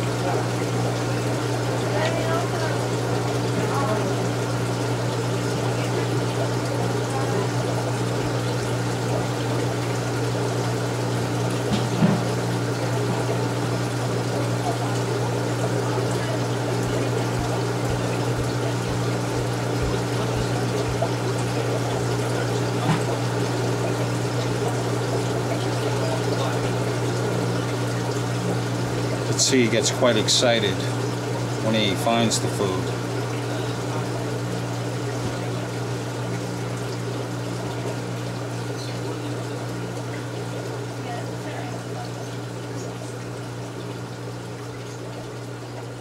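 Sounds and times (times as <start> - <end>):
filter pump humming: 0.0 - 46.0
water trickling and splashing: 0.0 - 46.0.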